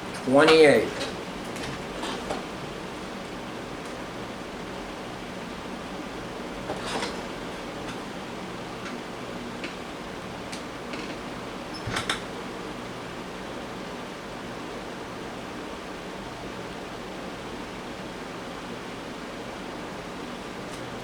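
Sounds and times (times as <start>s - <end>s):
steady hiss with low hum: 0.0s - 21.0s.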